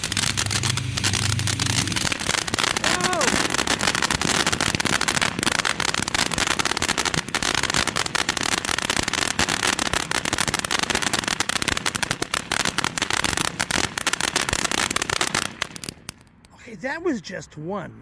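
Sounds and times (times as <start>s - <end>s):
firework fountain crackling: 0.0s - 16.5s.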